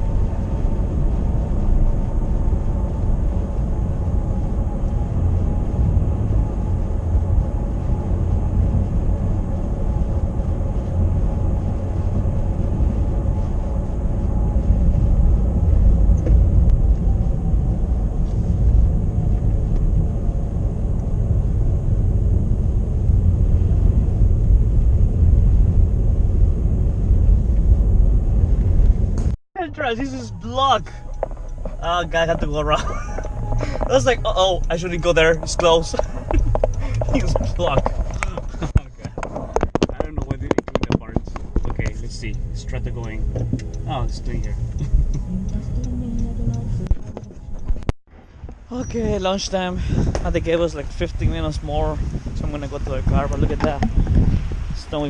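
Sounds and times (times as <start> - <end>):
faint whine: 0.0 - 54.0
car engine and tyre rumble: 0.0 - 55.0.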